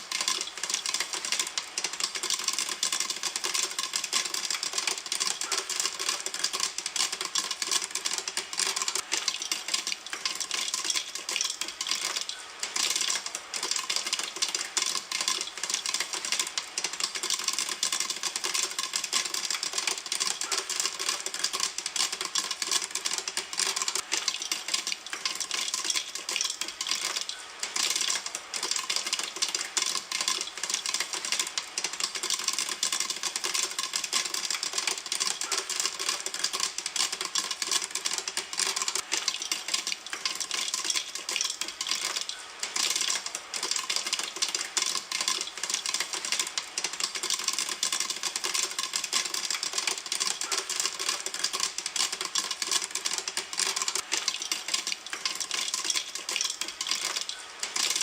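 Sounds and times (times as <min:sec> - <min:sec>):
popcorn popping in a pan: 0:00.0 - 0:58.0.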